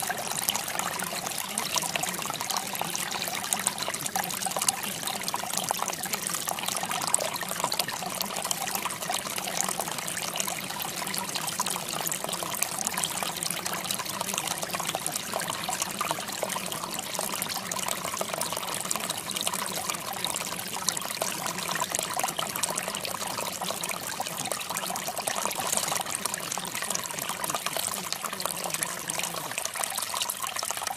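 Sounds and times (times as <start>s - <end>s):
running water trickling: 0.0s - 30.9s.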